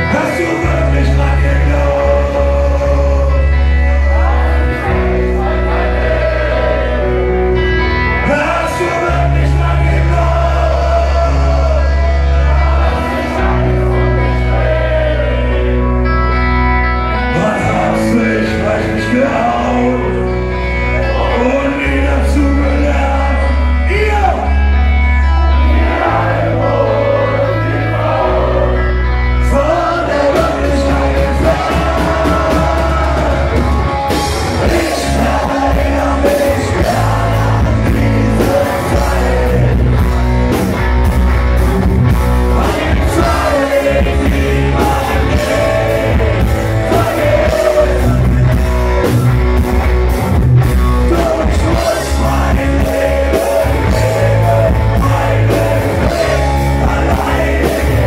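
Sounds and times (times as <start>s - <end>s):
man singing: 0.0s - 7.1s, 8.1s - 15.9s, 17.1s - 28.1s, 28.7s - 40.6s, 42.4s - 49.1s, 50.8s - 58.0s
live rock band playing: 0.0s - 58.0s.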